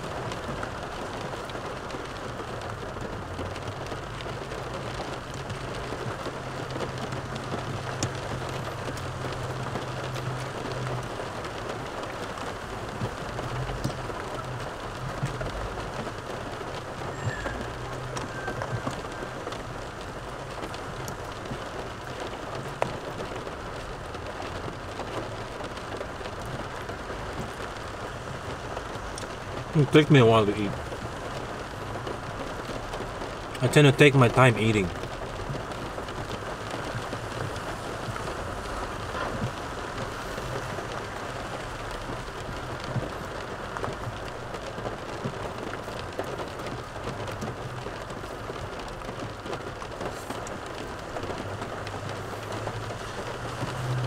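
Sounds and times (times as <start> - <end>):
rain on a car roof: 0.0 - 54.0.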